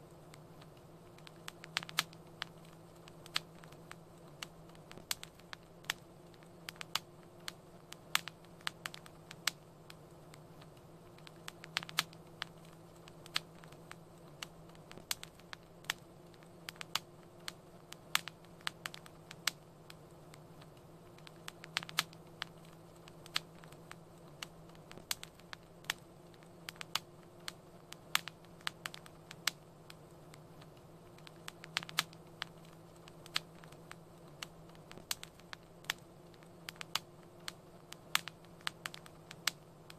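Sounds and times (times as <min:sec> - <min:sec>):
fire crackling and popping: 0:00.0 - 0:39.9
soft low hum: 0:00.0 - 0:39.9.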